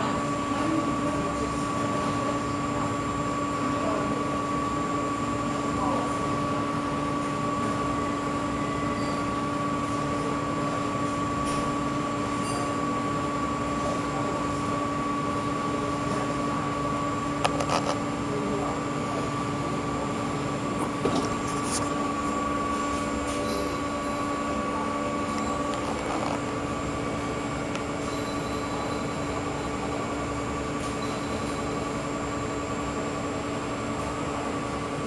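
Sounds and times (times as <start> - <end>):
electric fan hum: 0.0 - 35.0.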